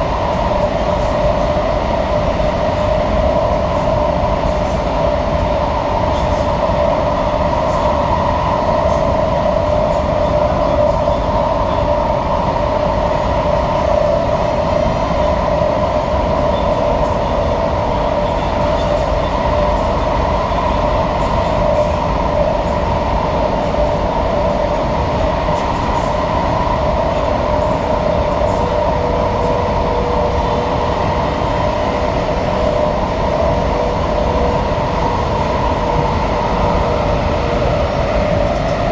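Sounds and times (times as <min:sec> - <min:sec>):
wheels rumbling on rails: 0:00.0 - 0:38.9.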